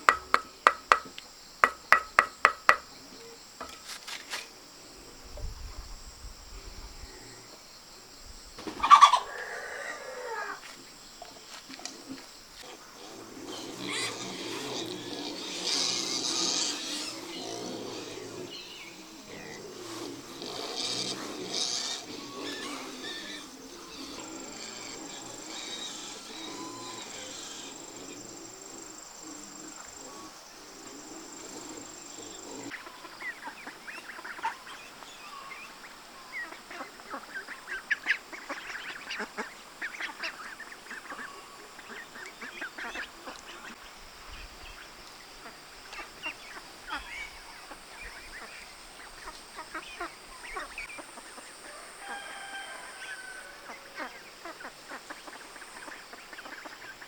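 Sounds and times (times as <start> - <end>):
high insect drone: 0.0 - 36.6, 37.3 - 57.0
farm animal calls: 8.6 - 35.7, 36.4 - 44.7, 45.4 - 57.0.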